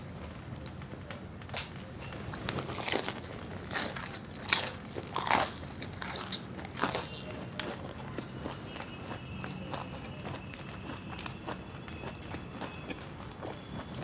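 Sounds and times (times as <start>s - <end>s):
crunchy fritters being chewed: 0.6s - 14.0s.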